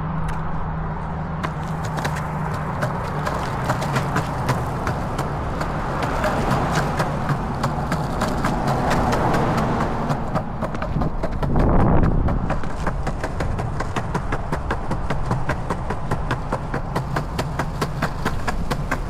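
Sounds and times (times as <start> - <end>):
truck passing: 0.0 - 19.0
skateboard wheels rumbling on concrete: 1.0 - 19.0
wheels clacking over joints: 1.4 - 19.0.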